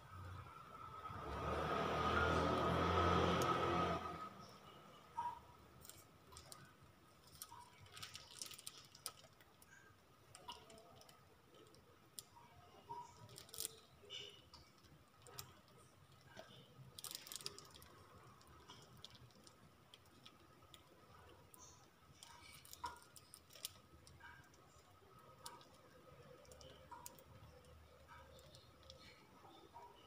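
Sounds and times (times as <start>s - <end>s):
faint small clicks and crackles: 0.1s - 30.0s.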